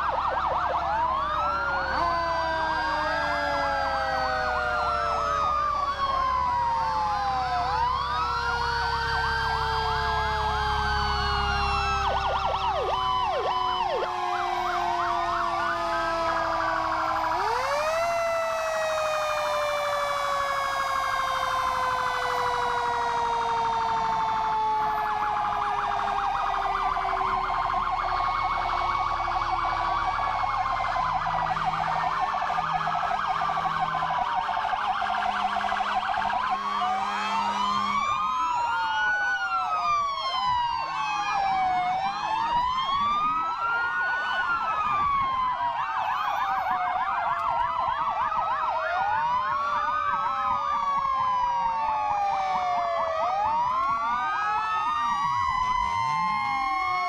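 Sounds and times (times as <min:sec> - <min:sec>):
heavy truck engine rumbling: 0:00.0 - 0:45.8
deep siren tone: 0:00.0 - 0:57.0
siren yelps: 0:00.0 - 0:57.0
sirens wailing: 0:00.0 - 0:57.0.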